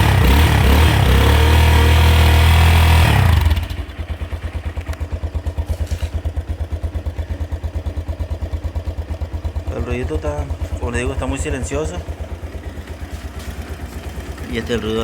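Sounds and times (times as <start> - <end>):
motorcycle engine revving and idling: 0.0 - 15.0.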